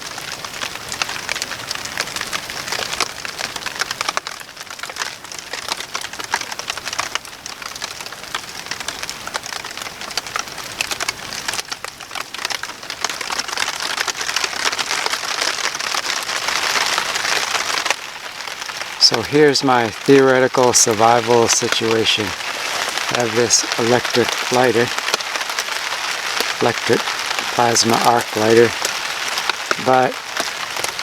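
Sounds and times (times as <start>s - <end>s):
rain and sleet falling: 0.0s - 31.0s.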